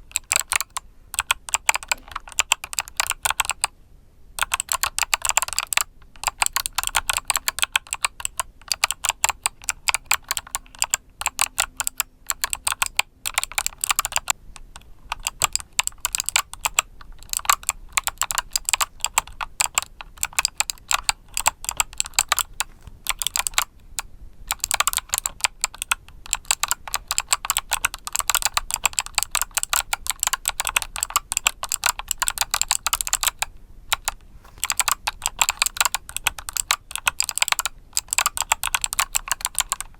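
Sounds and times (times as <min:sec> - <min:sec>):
mechanical keyboard typing: 0:00.0 - 0:03.7, 0:04.4 - 0:39.9.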